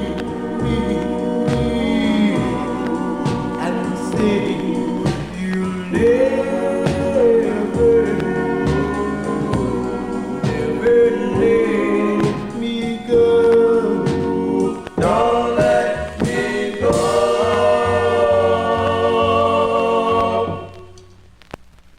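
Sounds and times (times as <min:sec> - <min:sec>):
drums striking: 0:00.0 - 0:21.0
vocal group singing in harmony: 0:00.0 - 0:21.1
backing band: 0:00.0 - 0:21.2.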